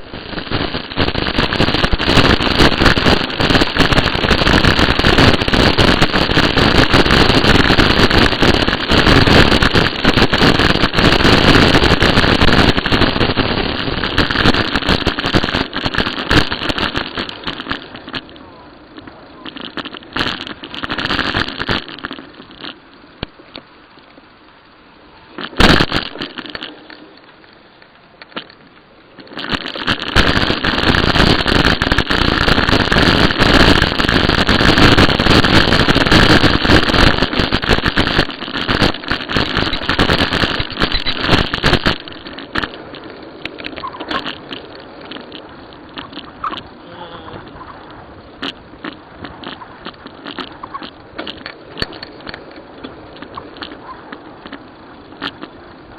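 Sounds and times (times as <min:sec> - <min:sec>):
bicycle riding rumble: 0:00.0 - 0:55.9.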